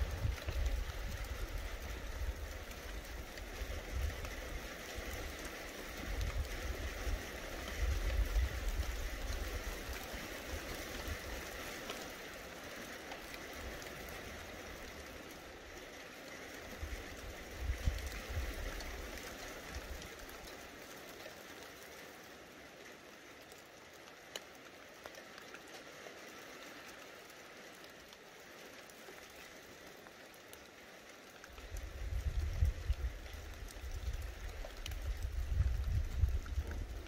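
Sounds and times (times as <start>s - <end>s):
light rain hiss: 0.0s - 37.0s
raindrop ticks: 0.0s - 37.0s.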